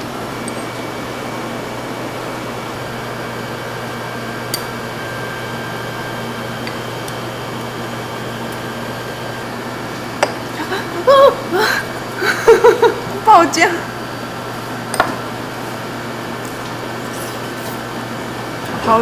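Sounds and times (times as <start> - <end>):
machine whirring with low hum: 0.0 - 19.0.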